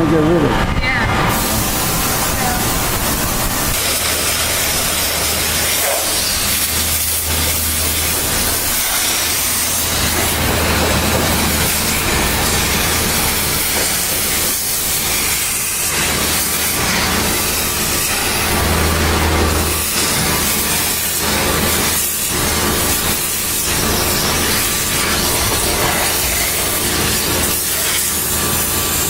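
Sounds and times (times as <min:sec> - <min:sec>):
steam jet hissing: 0:01.1 - 0:29.0.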